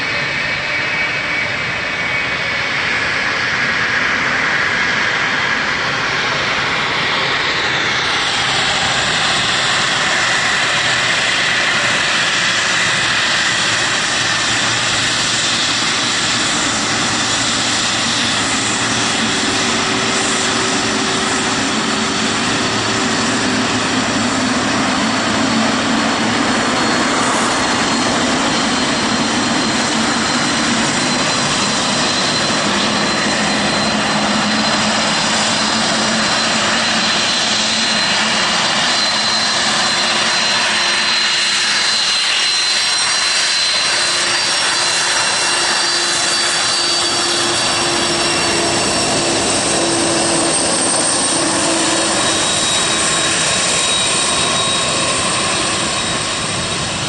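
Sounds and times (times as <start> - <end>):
jet engines taxiing with whine: 0.0 - 57.0.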